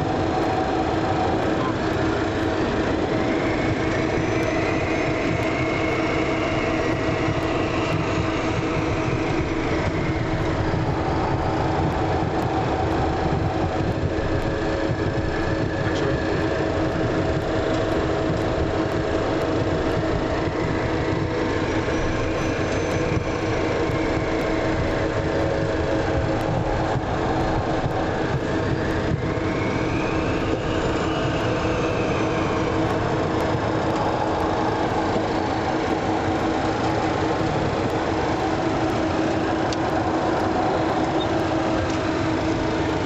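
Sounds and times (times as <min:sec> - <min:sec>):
faint engine whine: 0:00.0 - 0:43.0
jet engines from inside cabin: 0:00.0 - 0:43.0.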